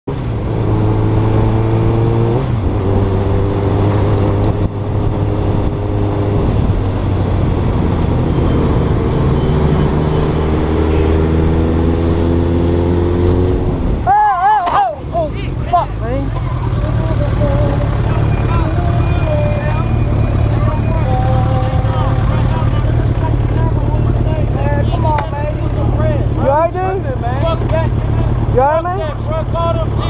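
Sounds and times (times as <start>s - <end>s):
road and wind noise: 0.0s - 30.0s
motorcycle engine cruising: 0.1s - 14.1s, 15.0s - 30.0s.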